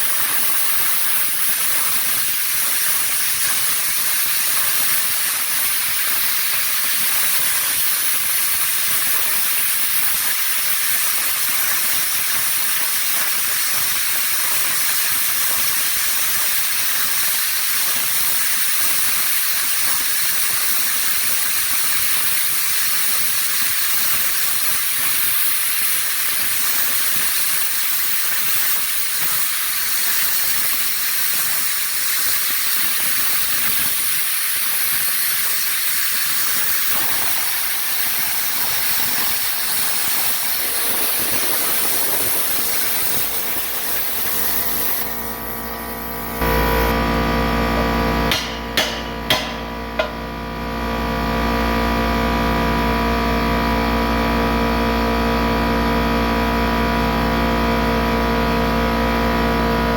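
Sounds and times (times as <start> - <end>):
plasma cutter hissing: 0.0 - 47.1, 47.7 - 50.4.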